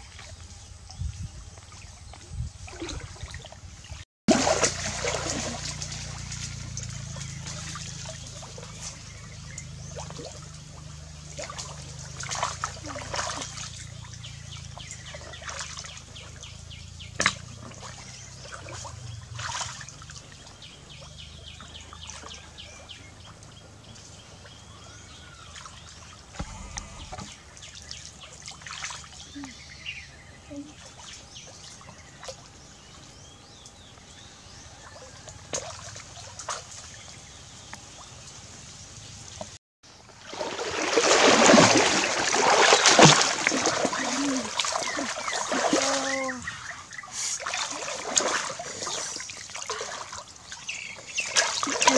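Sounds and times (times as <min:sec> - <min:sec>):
water splashing and trickling: 0:00.0 - 0:51.9.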